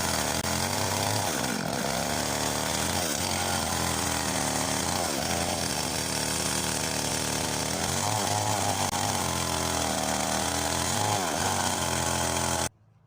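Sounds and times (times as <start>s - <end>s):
chainsaw cutting branches: 0.0s - 12.7s.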